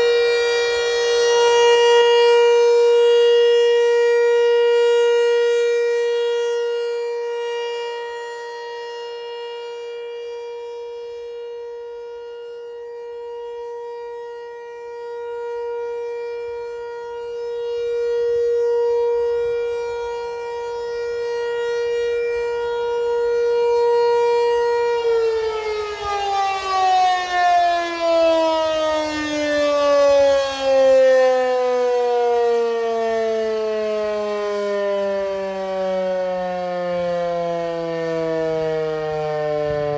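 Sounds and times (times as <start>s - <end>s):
warning siren: 0.0s - 39.9s.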